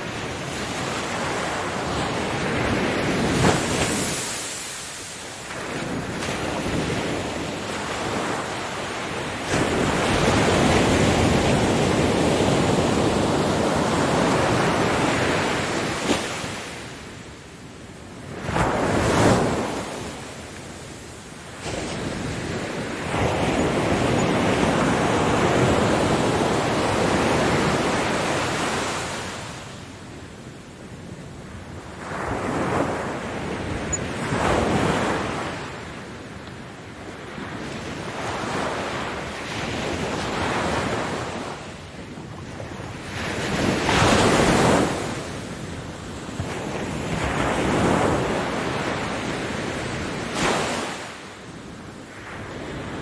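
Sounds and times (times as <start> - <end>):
ocean waves breaking on beach: 0.0 - 53.0.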